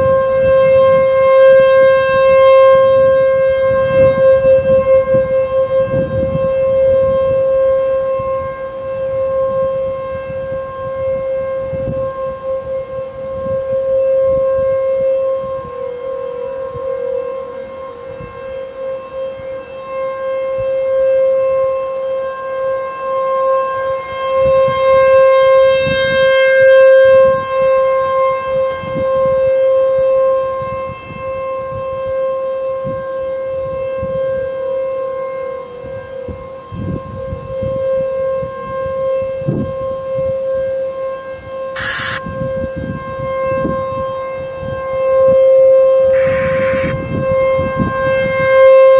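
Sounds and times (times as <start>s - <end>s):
civil defense siren steady tone: 0.0s - 48.9s.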